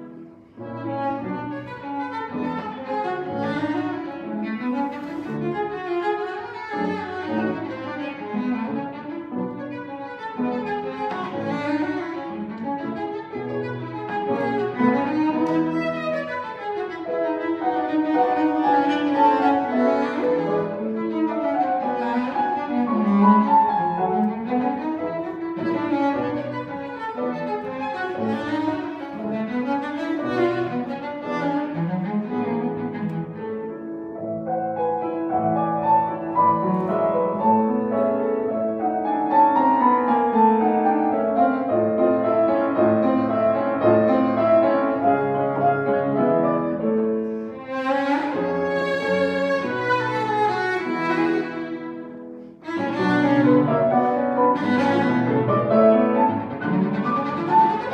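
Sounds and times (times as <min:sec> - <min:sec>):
bowed cello music: 0:00.0 - 0:57.9.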